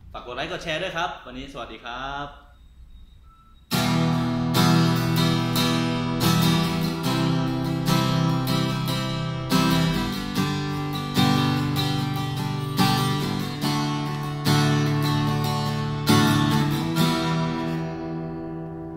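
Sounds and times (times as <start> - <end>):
acoustic guitar strummed chords: 3.7 - 18.9.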